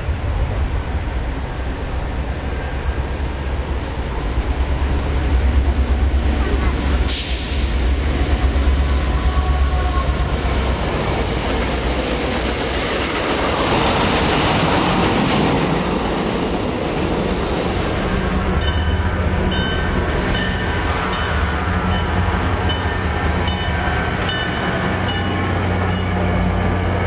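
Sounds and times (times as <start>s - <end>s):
low train rumble: 0.0s - 27.0s.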